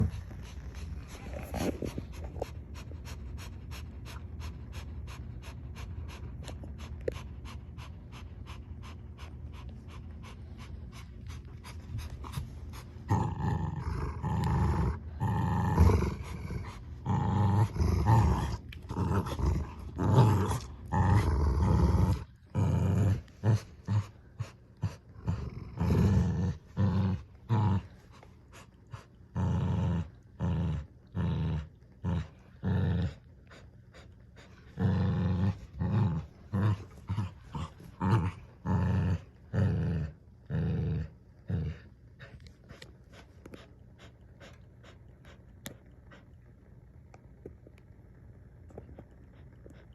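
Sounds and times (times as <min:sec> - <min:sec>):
dogs growling: 0:00.0 - 0:46.4.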